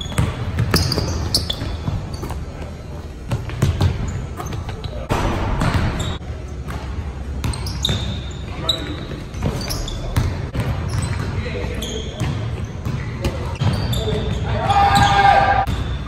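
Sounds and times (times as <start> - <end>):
sneakers squeaking: 0.0 - 16.0
players' voices: 1.3 - 15.7.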